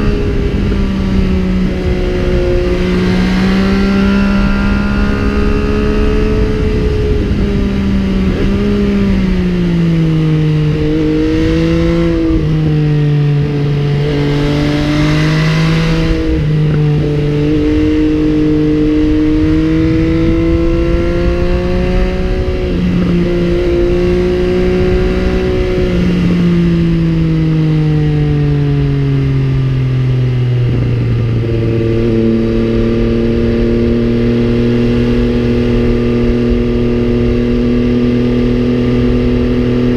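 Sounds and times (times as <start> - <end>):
low wind rumble: 0.0 - 39.9
motorcycle engine running: 0.0 - 39.9.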